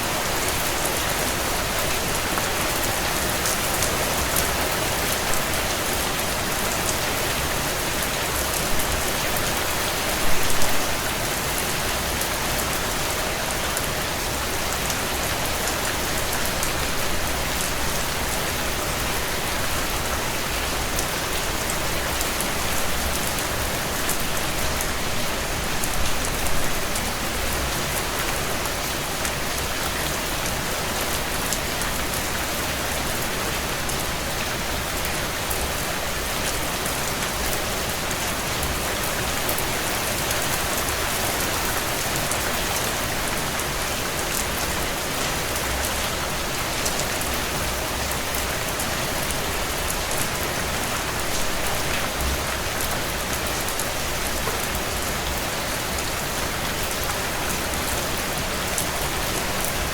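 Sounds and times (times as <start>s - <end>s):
heavy rain on window panes: 0.0s - 59.9s.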